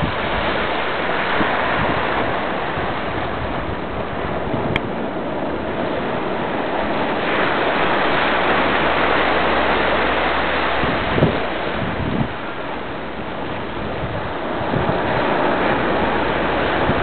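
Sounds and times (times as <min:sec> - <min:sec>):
surf washing over rocks: 0:00.0 - 0:17.0
wind bumps on microphone: 0:00.0 - 0:17.0.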